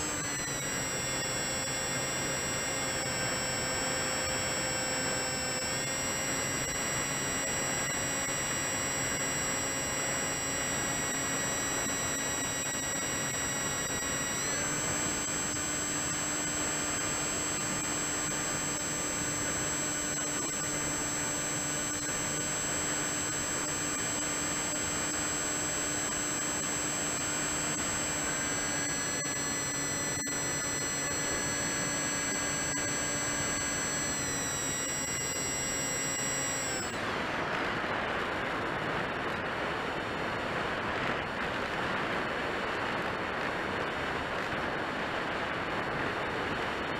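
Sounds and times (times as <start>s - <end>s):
electric motor and propeller whine: 0.0s - 39.7s.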